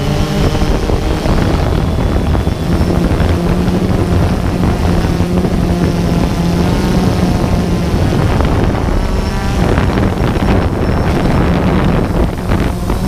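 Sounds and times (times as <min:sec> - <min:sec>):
drone propellers buzzing: 0:00.0 - 0:13.0
rushing noise of drone flying: 0:00.0 - 0:13.0.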